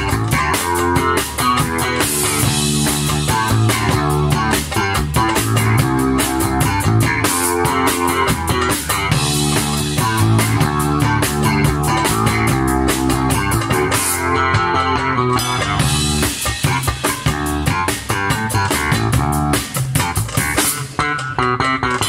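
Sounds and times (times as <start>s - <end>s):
drum kit: 0.0s - 22.0s
electric guitar: 0.0s - 22.0s
hand drum: 0.0s - 22.0s.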